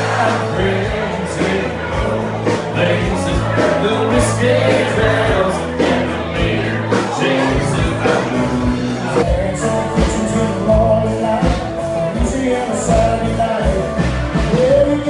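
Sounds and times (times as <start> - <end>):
band playing a song: 0.0 - 15.0
person singing: 0.0 - 15.0
steady drum beat: 0.0 - 15.0.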